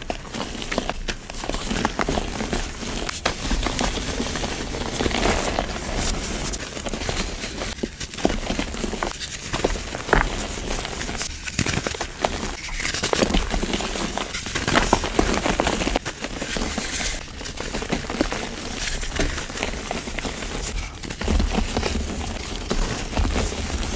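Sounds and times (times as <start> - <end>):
crumbly material crunching: 0.0 - 23.9.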